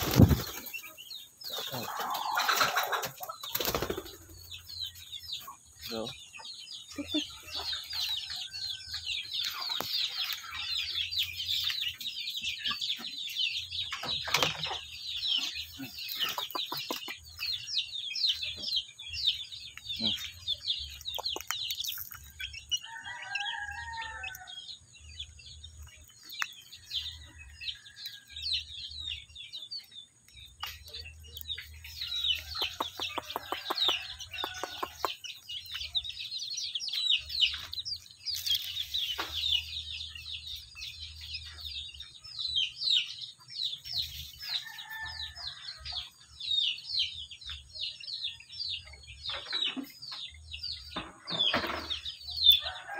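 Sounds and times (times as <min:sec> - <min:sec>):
chicks peeping: 0:00.0 - 0:52.9.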